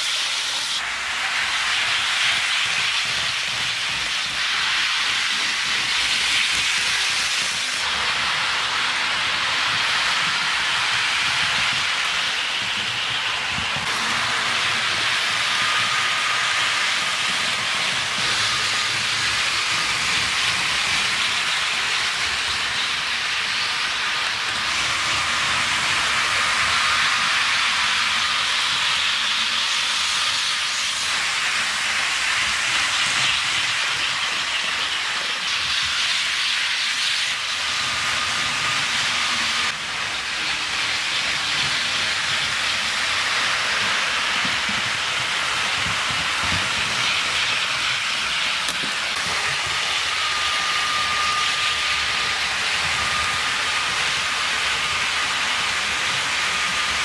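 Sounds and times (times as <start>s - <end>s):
model train wheels on rails: 0.0s - 57.0s.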